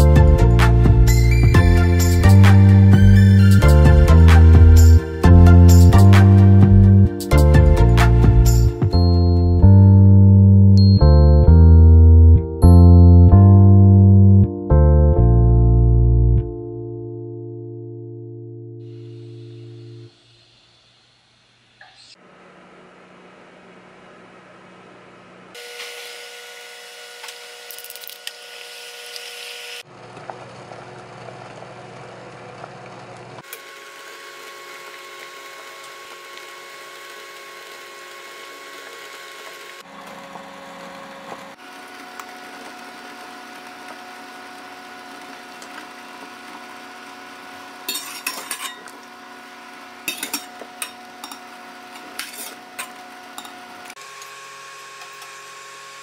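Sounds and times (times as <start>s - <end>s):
kitchen appliance hum: 0.0s - 9.6s, 18.8s - 56.0s.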